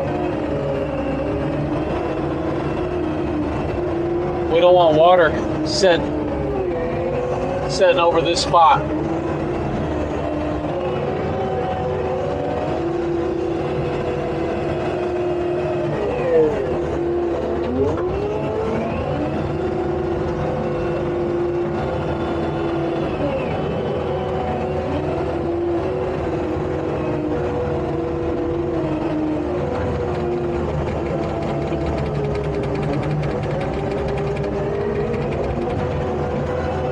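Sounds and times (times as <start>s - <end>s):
skid steer diesel engine running: 0.0s - 36.9s.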